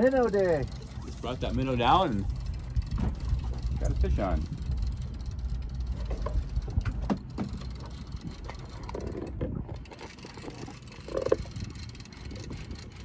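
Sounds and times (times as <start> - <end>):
fishing reel cranking: 0.0 - 13.0
low rumble of boat: 0.0 - 13.0.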